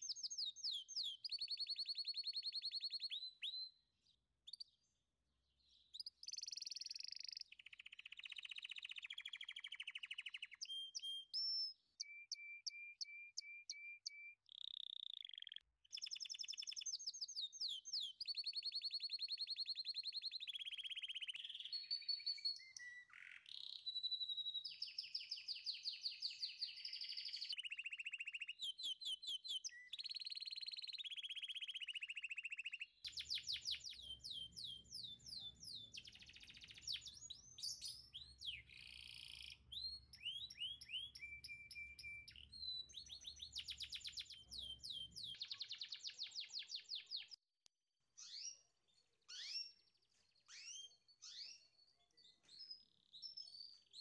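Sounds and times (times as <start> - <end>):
songbird chirping and trilling: 0.0 - 47.4, 48.2 - 54.0.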